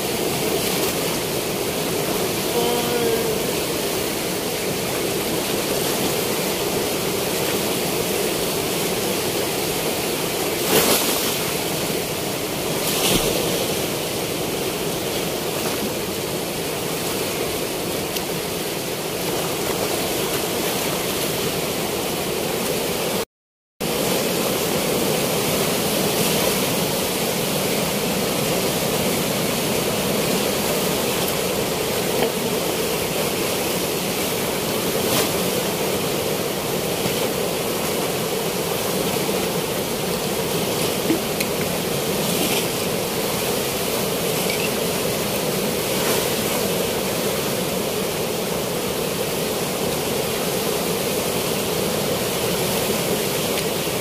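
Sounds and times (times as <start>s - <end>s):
river water rushing through weir: 0.0s - 23.2s, 23.8s - 54.0s.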